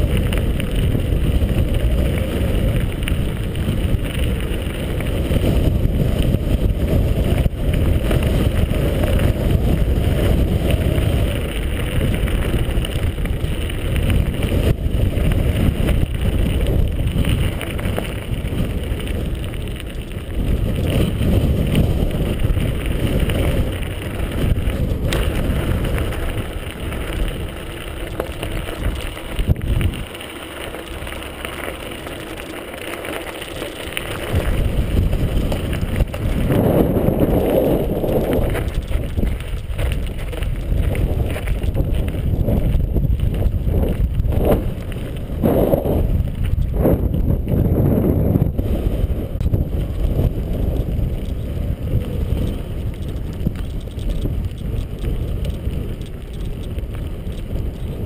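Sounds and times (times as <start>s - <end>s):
bike rattling over bumps: 0.0s - 58.0s
tyres crunching over gravel: 0.0s - 58.0s
wind buffeting microphone: 0.0s - 58.0s.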